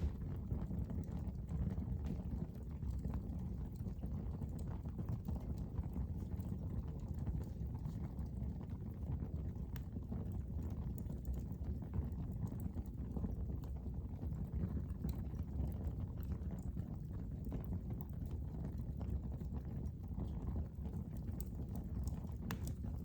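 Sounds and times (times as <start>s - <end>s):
fire burning in fireplace: 0.0s - 23.0s.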